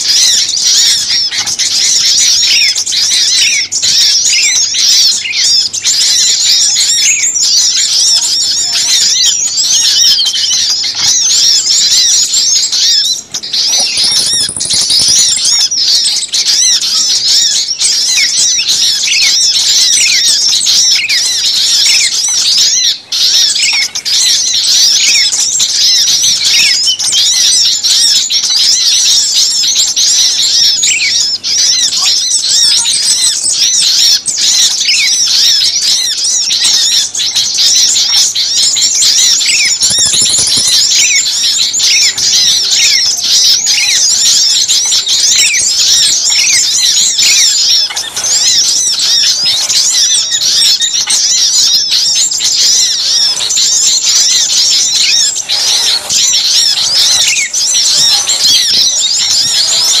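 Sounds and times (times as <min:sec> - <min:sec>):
small songbirds chirping: 0:00.0 - 1:00.0.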